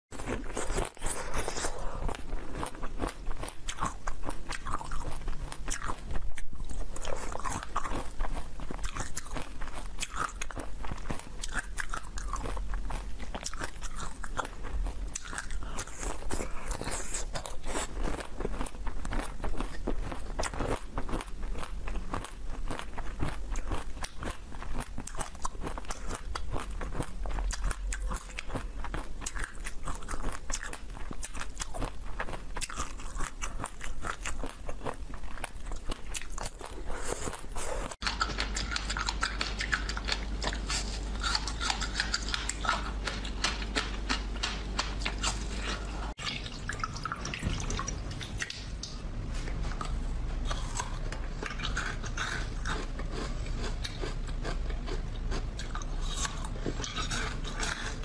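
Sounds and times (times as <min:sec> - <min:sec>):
crunching and chewing frozen bar: 0:00.2 - 0:46.2, 0:49.8 - 0:58.0.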